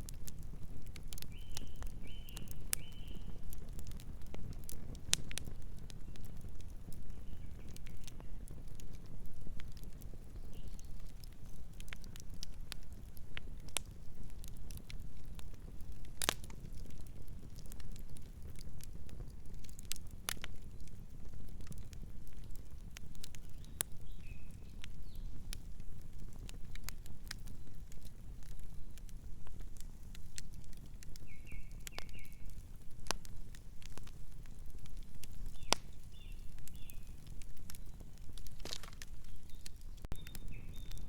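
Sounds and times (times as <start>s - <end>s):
burning wood crackling and popping: 0.0s - 41.0s
low rumble of flames: 0.0s - 41.0s.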